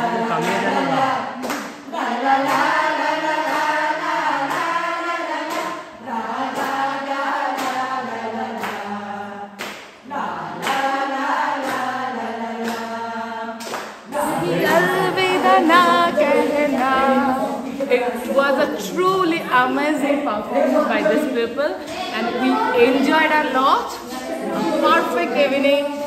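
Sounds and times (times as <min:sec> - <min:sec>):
group singing folk song: 0:00.0 - 0:26.0.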